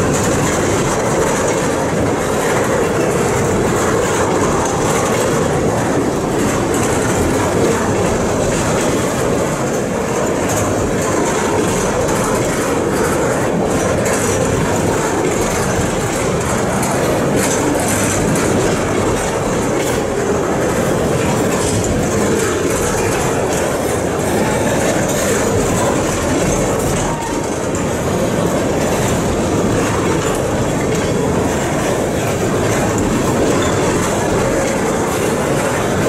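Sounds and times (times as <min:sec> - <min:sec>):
freight train wheels rumbling: 0:00.0 - 0:36.0.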